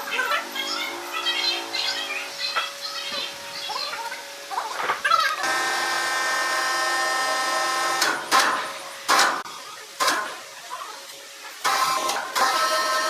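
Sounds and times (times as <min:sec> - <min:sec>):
power tool motor whining: 0:00.0 - 0:13.0.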